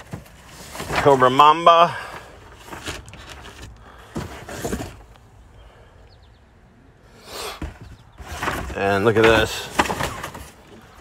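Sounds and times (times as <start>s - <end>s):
cardboard boxes rustling: 0.0s - 5.5s, 7.4s - 11.0s.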